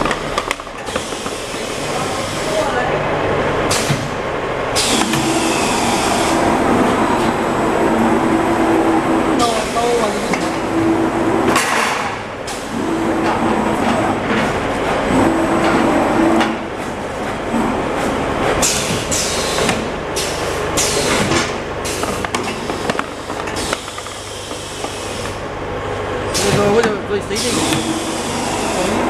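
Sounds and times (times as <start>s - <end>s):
cutting machine hum and clatter: 0.0s - 29.0s.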